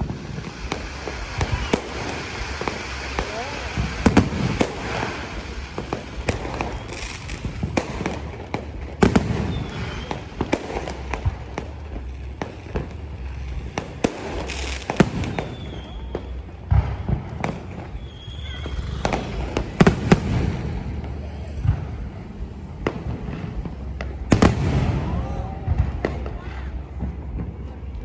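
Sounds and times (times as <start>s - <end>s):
fireworks bangs and pops: 0.0s - 28.0s.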